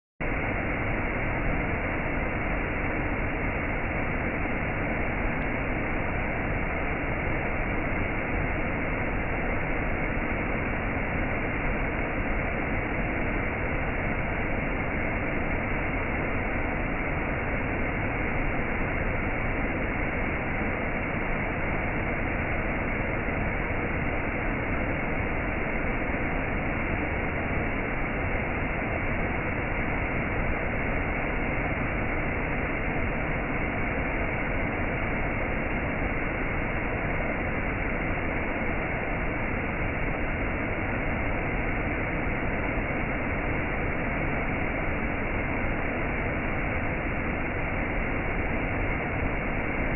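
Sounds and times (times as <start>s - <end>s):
muffled whitewater rushing over rock: 0.2s - 49.9s.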